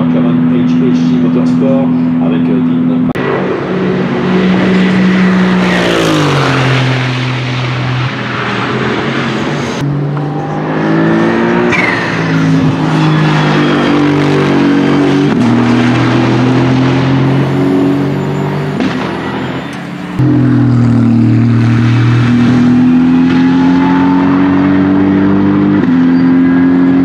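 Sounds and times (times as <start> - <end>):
race car engine at speed: 0.0 - 27.0.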